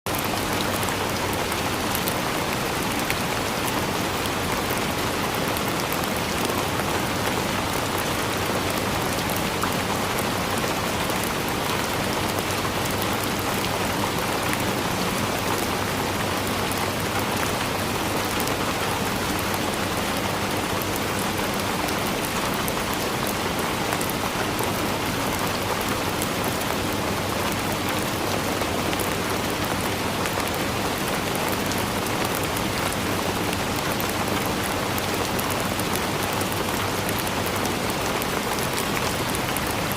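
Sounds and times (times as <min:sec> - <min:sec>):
steady rain falling: 0:00.1 - 0:39.9.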